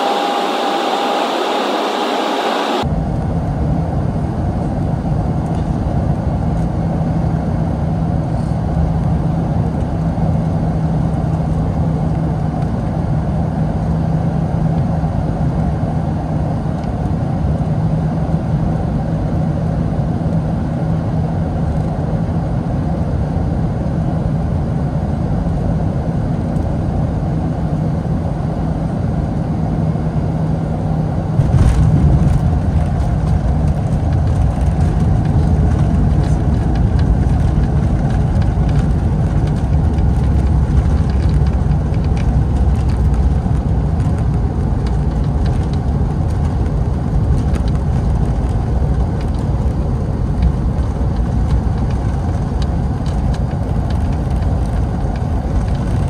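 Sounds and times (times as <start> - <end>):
jet engine and airflow rumble: 0.0 - 56.0
steady low hum: 0.0 - 56.0.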